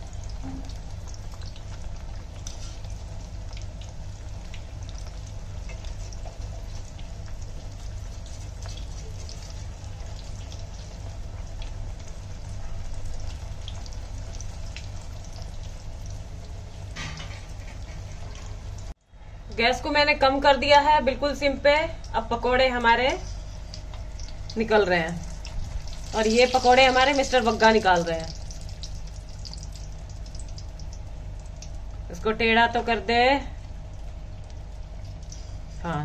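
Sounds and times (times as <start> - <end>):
deep-frying sizzle with crackles: 0.0 - 36.0.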